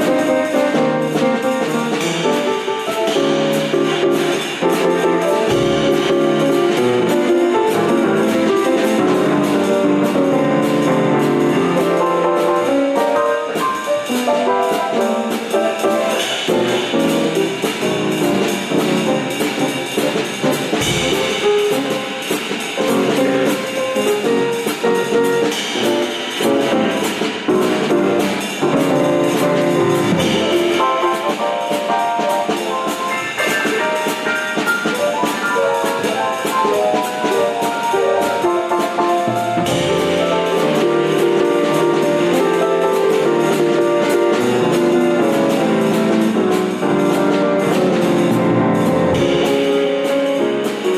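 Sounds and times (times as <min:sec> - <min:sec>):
instrumental music with brass: 0:00.0 - 0:50.9.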